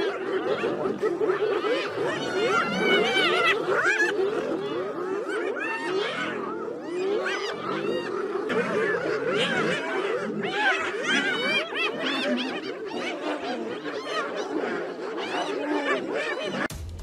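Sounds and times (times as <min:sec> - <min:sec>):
hyenas giggling and whooping: 0:00.0 - 0:16.7.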